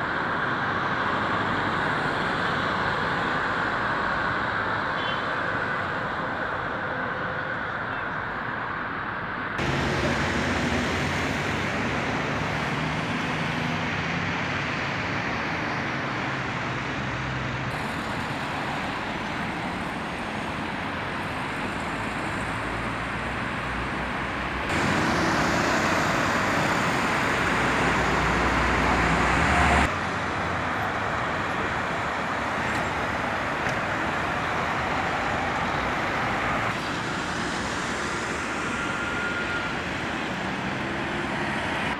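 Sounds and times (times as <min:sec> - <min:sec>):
cars passing on busy road: 0:00.0 - 0:41.9.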